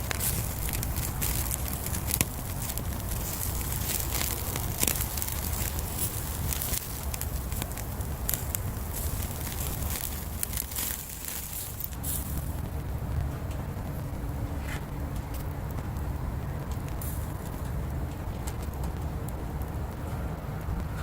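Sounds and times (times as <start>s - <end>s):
bonfire crackling and popping: 0.0s - 21.0s
low steady rumble: 0.0s - 21.0s.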